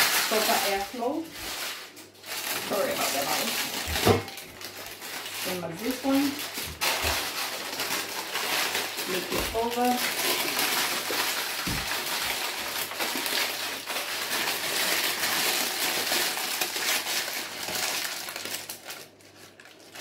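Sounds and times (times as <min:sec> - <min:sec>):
baking paper crinkling: 0:00.0 - 0:20.0.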